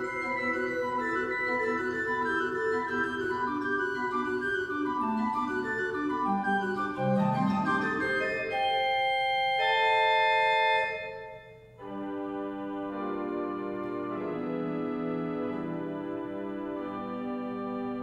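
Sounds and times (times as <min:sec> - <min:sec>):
pipe organ playing: 0:00.0 - 0:18.0.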